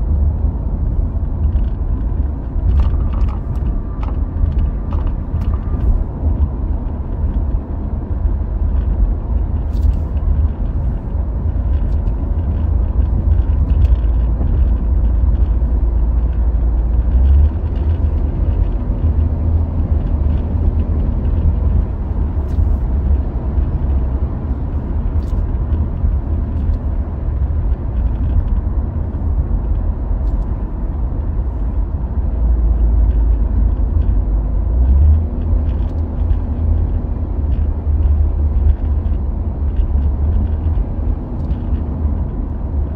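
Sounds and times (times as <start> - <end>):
car interior road rumble: 0.0 - 42.9.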